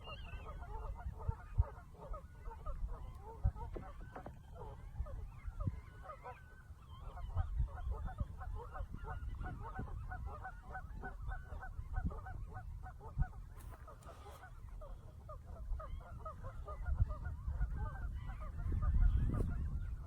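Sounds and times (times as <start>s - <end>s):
flock of birds honking: 0.0s - 20.0s.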